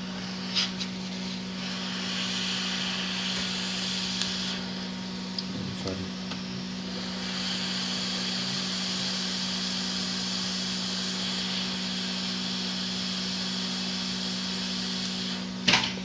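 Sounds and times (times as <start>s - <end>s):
hot air gun hissing: 0.0s - 5.2s, 5.8s - 16.0s.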